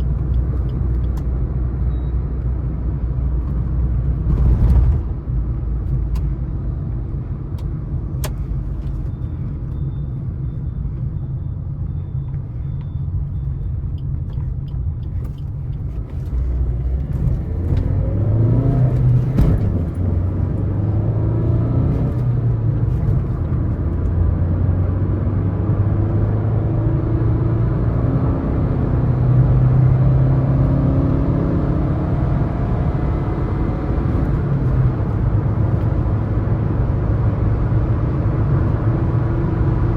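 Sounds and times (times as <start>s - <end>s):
diesel engine rumble in cabin: 0.0s - 27.3s, 32.2s - 39.9s.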